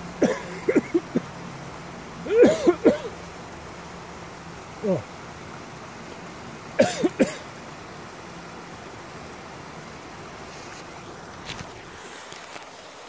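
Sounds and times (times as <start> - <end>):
stream over rocks: 0.0 - 13.0.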